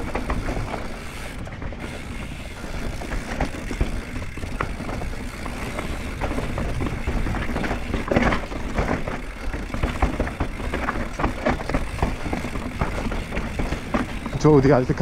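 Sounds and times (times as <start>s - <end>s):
bike knocking and rattling: 0.0s - 15.0s.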